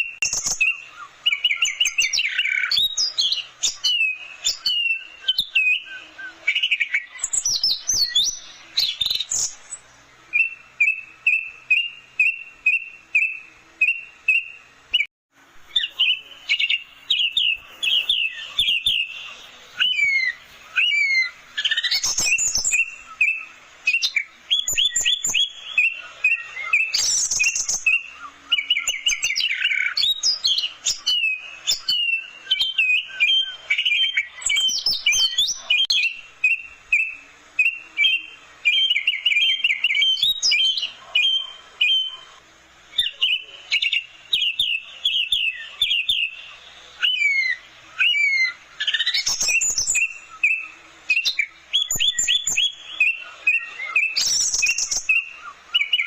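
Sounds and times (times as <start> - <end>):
thrush singing chirps and whistles: 0.0 - 56.0.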